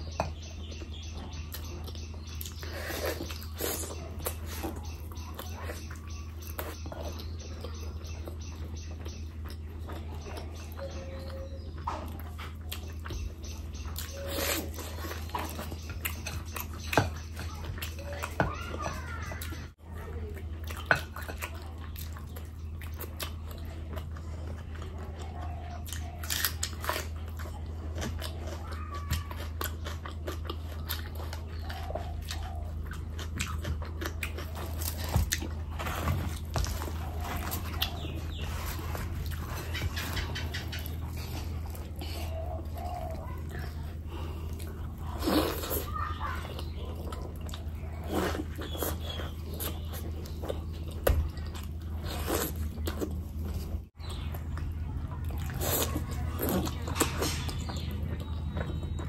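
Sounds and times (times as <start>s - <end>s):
person chewing with wet clicks: 0.0s - 18.4s, 19.4s - 59.0s.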